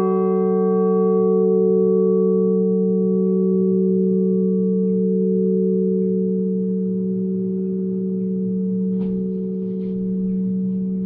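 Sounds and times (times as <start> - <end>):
tower bells humming: 0.0 - 11.0.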